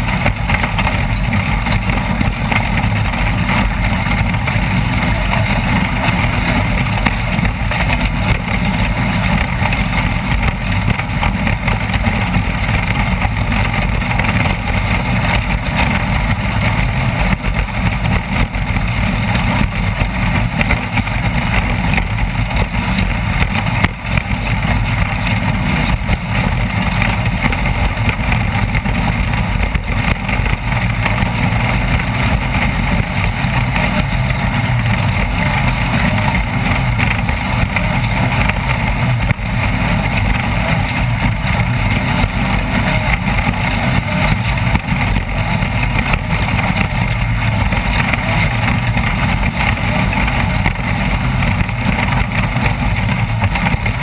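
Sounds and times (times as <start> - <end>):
loud race vehicle engine: 0.0 - 54.0
rushing wind: 0.0 - 54.0.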